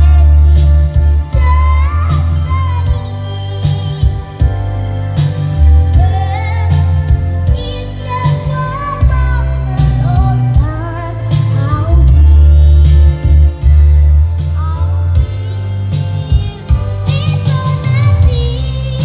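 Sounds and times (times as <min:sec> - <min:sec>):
girl singing: 0:00.0 - 0:04.8, 0:05.5 - 0:19.0
music backing track with bass beat: 0:00.0 - 0:19.0.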